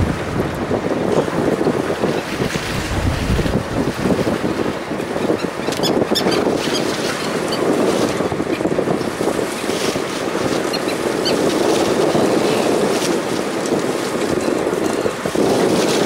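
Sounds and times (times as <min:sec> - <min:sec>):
sea noise: 0:00.0 - 0:16.0
wind on microphone: 0:00.0 - 0:16.0.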